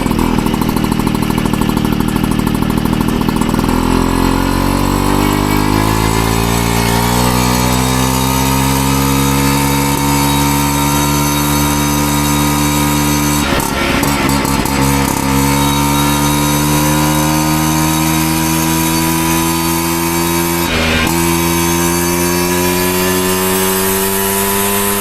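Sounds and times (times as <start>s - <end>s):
engine clatter: 0.0s - 25.0s
two-stroke moped engine idling: 0.0s - 25.0s.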